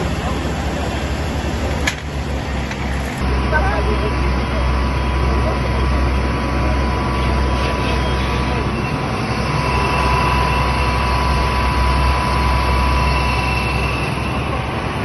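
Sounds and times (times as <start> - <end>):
heavy vehicle engine humming: 0.0 - 15.0
high-pitched whine: 0.0 - 15.0.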